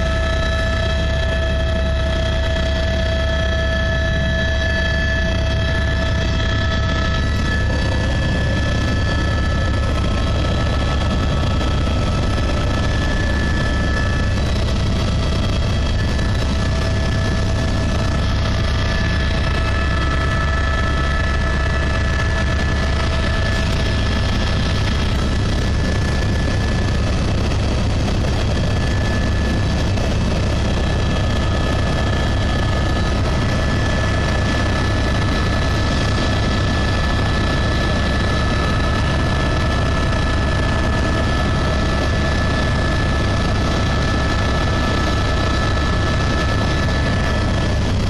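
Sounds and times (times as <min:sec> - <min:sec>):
helicopter rotor and engine din: 0:00.0 - 0:48.0
high-pitched whine: 0:00.0 - 0:48.0.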